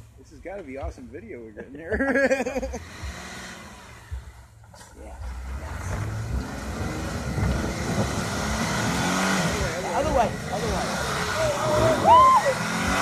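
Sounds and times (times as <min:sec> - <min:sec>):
car engine revving under load: 0:02.4 - 0:13.0.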